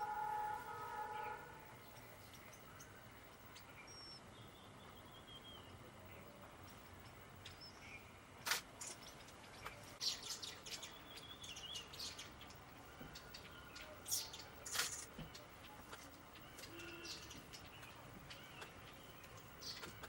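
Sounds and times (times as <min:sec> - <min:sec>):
wild birds chirping: 0:00.0 - 0:20.0.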